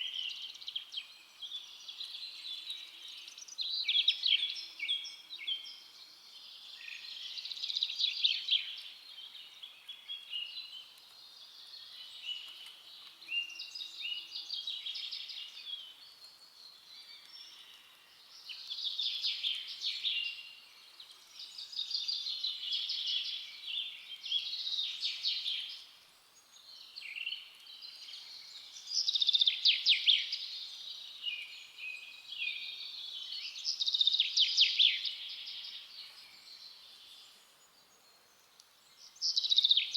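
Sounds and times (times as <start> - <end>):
faint outdoor hiss: 0.0 - 39.9
songbirds chirping and trilling: 0.0 - 39.9.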